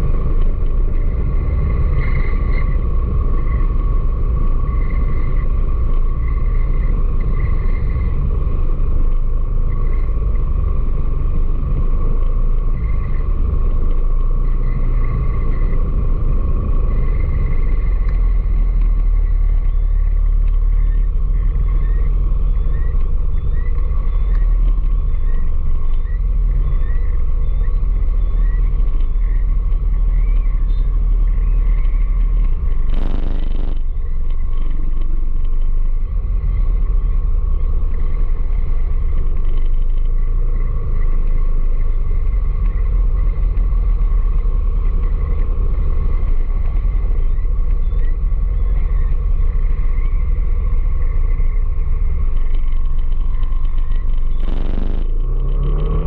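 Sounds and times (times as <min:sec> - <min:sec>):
vehicle rumble in traffic: 0:00.0 - 0:56.0.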